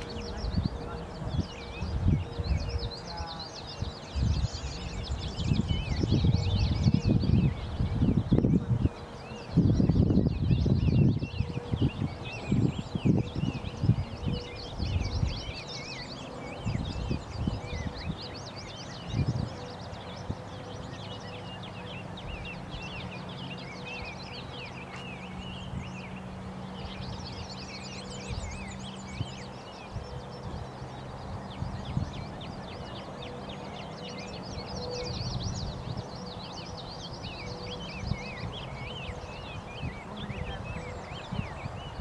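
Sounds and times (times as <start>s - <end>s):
birds singing and chirping: 0.0s - 42.0s.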